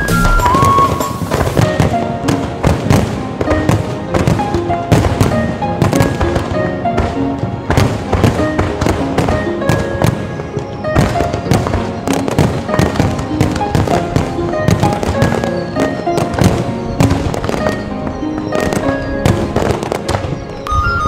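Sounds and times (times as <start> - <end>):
fireworks bangs: 0.0 - 21.0
music playing: 0.0 - 21.0.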